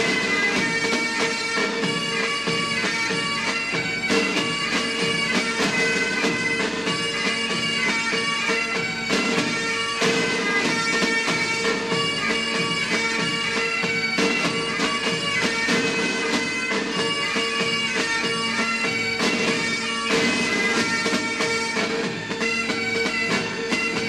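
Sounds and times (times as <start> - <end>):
bagpipe drone: 0.0 - 24.0
bagpipe melody: 0.0 - 24.0.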